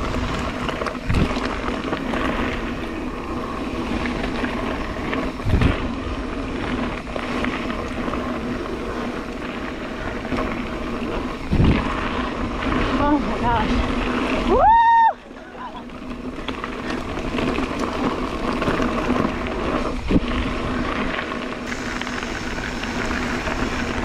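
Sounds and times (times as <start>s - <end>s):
bike tyres rolling on dirt: 0.0s - 24.0s
wind on microphone: 0.0s - 24.0s.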